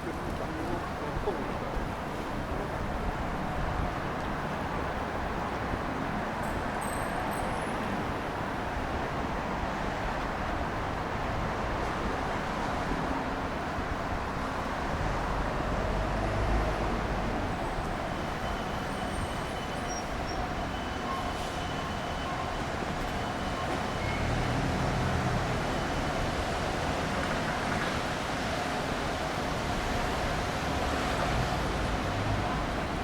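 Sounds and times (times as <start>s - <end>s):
traffic on wet road: 0.0s - 33.0s.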